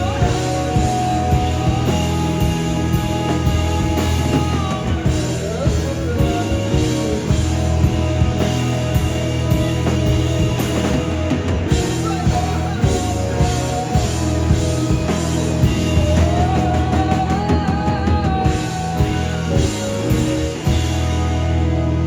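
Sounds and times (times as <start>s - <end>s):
bending lead guitar melody: 0.0s - 22.0s
rock band playing live: 0.0s - 22.0s.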